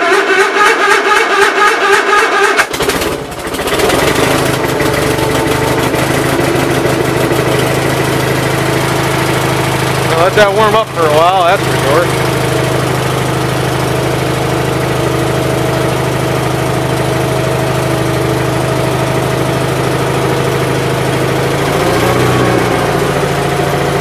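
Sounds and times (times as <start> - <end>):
garden tractor engine idling: 1.9 - 24.0.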